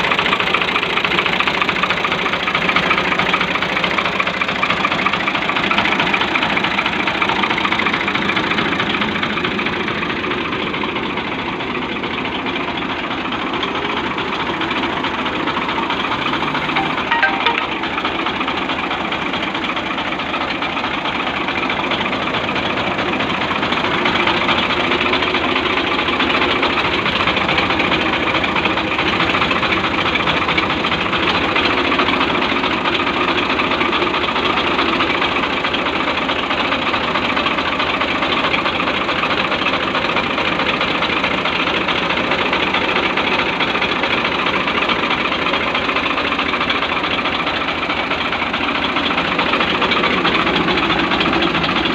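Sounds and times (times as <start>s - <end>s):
tractor diesel engine idling: 0.0s - 16.9s, 17.9s - 51.9s.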